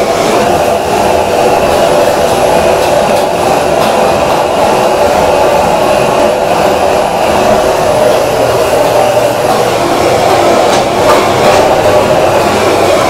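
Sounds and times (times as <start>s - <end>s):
kitchen equipment roaring: 0.0s - 13.0s.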